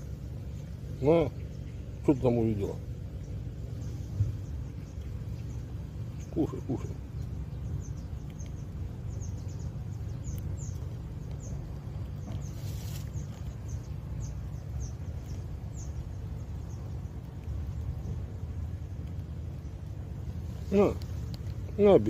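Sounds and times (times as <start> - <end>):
low rumble: 0.0 - 22.0
small birds chirping: 0.0 - 22.0.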